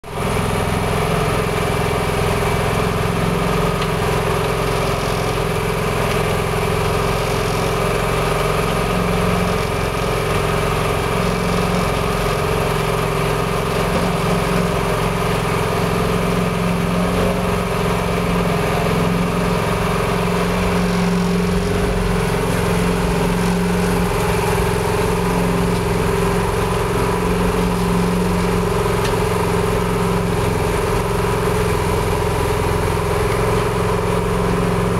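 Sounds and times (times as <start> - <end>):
mixer engine humming: 0.0 - 34.9.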